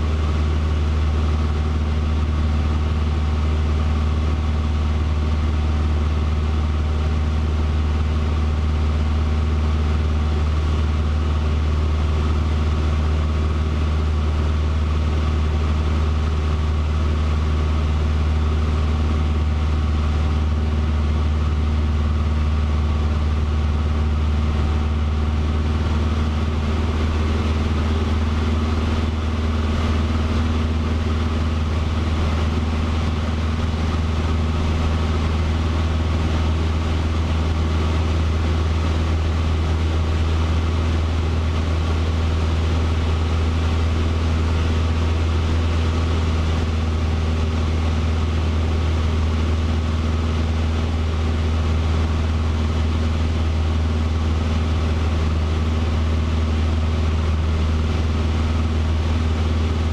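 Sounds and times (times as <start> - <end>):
light aircraft engine in cockpit: 0.0 - 59.9.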